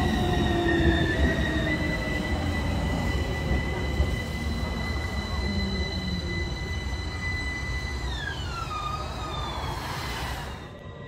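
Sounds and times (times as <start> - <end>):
tram high-pitched whine: 0.0 - 11.0.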